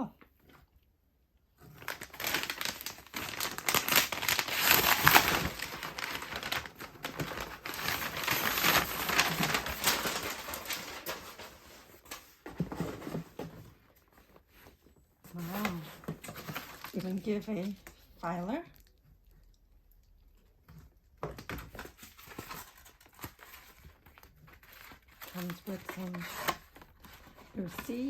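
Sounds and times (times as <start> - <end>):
paper packaging rustling: 1.6 - 18.1, 21.2 - 28.0.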